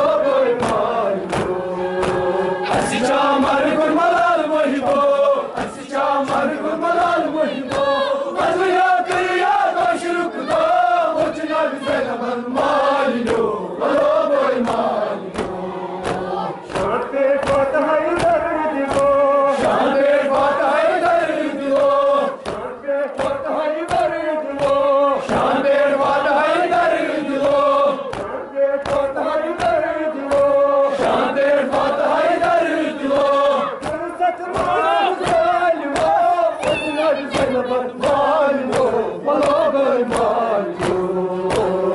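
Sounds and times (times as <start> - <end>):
men chanting a lament: 0.0 - 41.9
rhythmic chest-beating slaps: 0.0 - 41.9.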